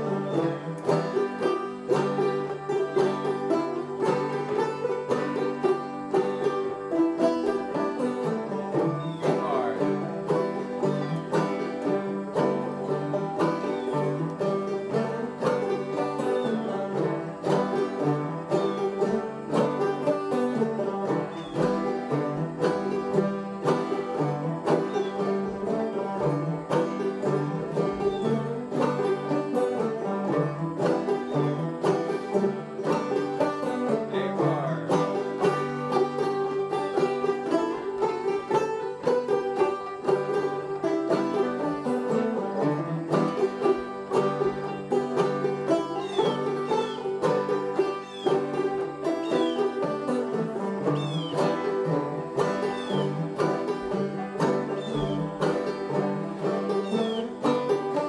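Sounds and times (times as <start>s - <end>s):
banjo playing old-time tune: 0.0s - 58.0s.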